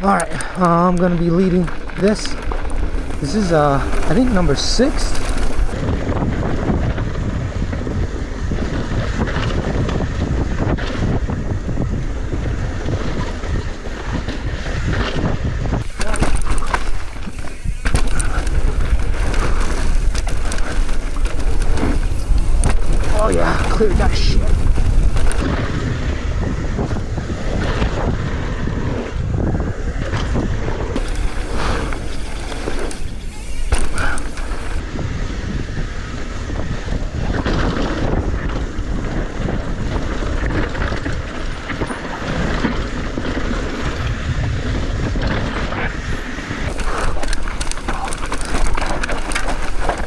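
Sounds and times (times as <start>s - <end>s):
bike ticks and rattles: 0.0s - 35.0s, 35.9s - 50.0s
wind buffeting microphone: 0.0s - 50.0s.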